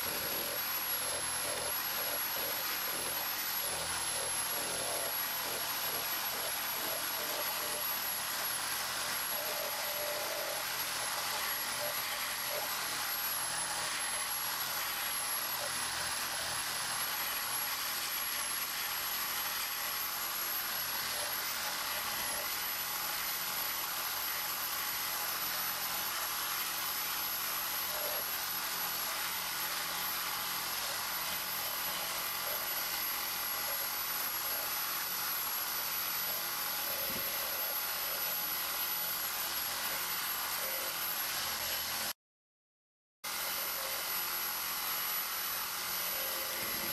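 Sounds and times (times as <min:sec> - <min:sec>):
reciprocating saw cutting steel: 0:00.0 - 0:42.2, 0:43.3 - 0:46.9.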